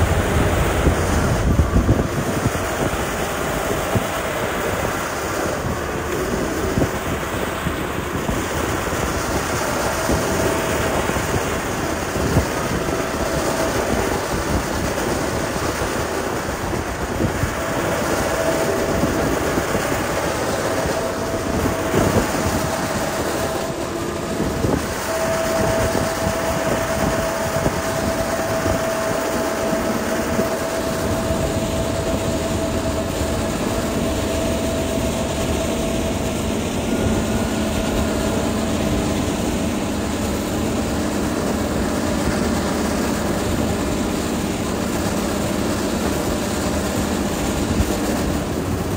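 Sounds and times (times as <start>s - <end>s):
diesel engine running: 0.0s - 48.9s
steady whine: 0.0s - 48.9s.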